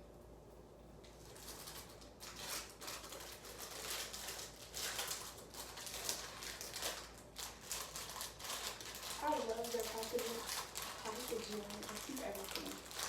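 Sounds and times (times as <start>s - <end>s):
plastic packaging crinkling: 1.0s - 13.0s.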